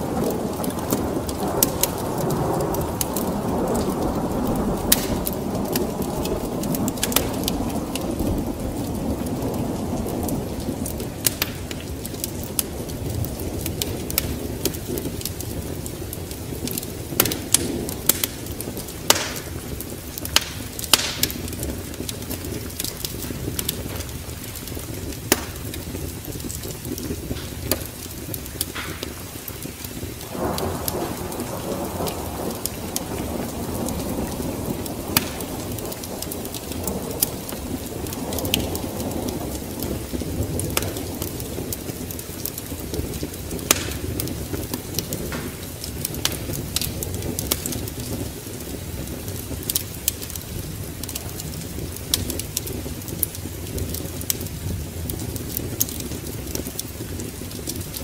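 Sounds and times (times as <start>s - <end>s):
rain: 0.0s - 58.0s
rumbling thunder: 0.0s - 58.0s
wood fire crackling and popping: 0.0s - 58.0s.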